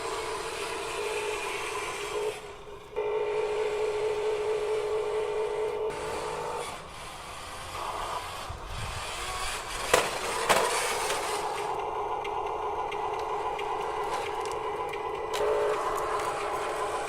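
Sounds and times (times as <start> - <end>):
toy motors whining: 0.0 - 17.0.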